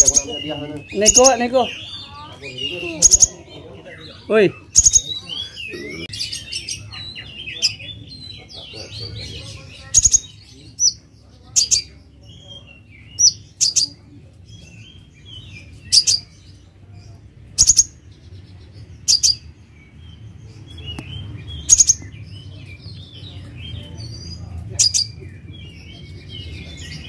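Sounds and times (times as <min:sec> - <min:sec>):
birds twittering: 0:00.0 - 0:27.0.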